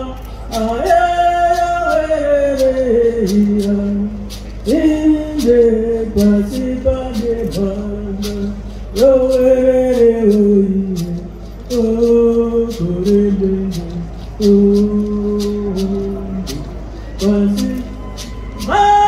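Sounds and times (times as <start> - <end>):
woman singing: 0.0 - 4.1, 4.7 - 19.0
gourd rattle shaken: 0.0 - 19.0.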